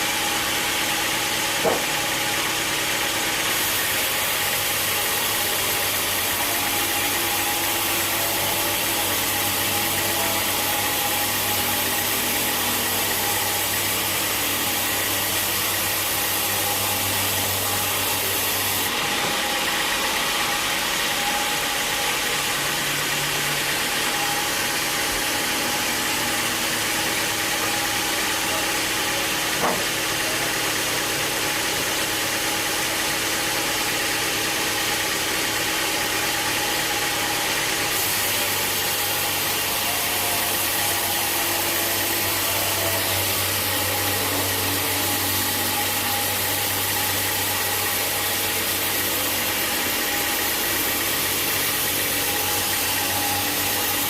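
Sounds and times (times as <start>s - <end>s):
machinery engine running: 0.0s - 54.0s.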